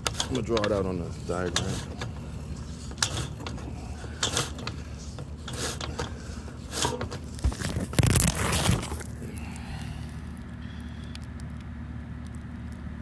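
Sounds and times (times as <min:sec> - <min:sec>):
low hum: 0:01.1 - 0:13.0.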